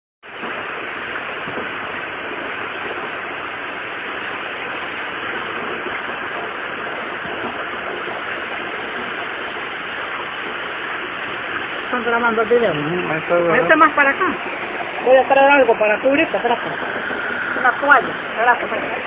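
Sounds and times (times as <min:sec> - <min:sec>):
heavy rain hiss: 0:00.2 - 0:19.0.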